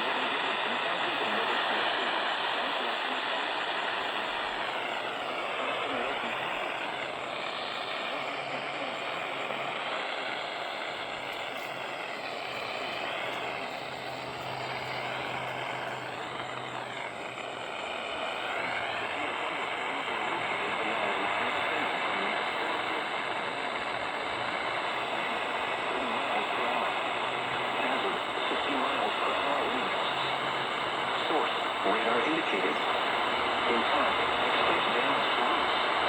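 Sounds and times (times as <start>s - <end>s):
low hum: 0.0s - 36.0s
radio static hiss: 0.0s - 36.0s.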